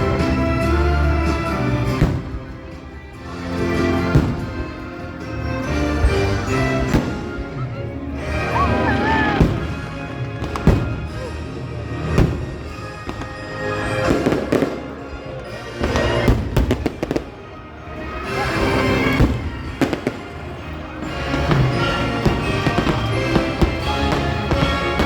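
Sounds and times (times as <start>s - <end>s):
fireworks bursting: 0.0s - 7.6s, 8.2s - 25.0s
loud show music: 0.0s - 25.0s.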